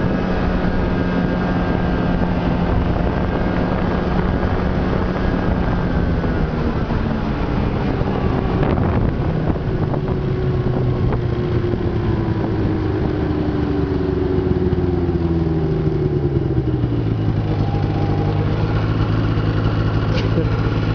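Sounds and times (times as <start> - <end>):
snowmobile engine running: 0.0 - 20.9.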